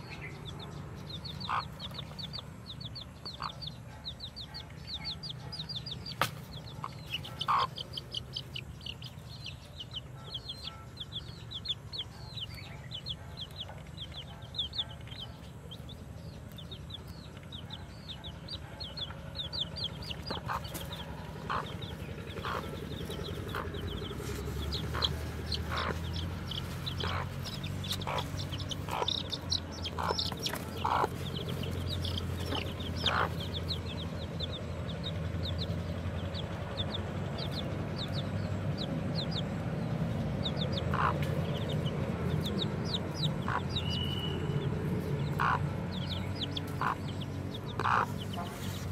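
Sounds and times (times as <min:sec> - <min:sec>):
hen clucking: 0:00.0 - 0:15.8, 0:16.4 - 0:39.6, 0:40.4 - 0:48.9
chicks peeping: 0:00.0 - 0:48.9.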